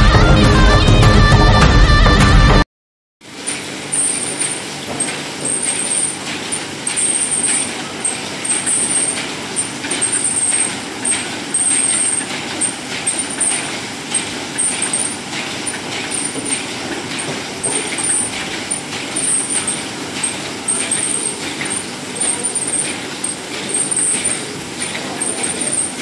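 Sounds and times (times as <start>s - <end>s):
stitching machine clattering: 3.2s - 26.0s.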